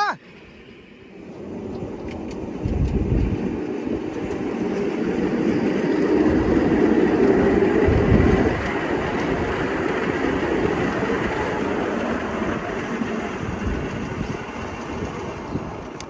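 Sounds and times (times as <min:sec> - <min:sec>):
miniature train rumbling on track: 0:00.0 - 0:16.0.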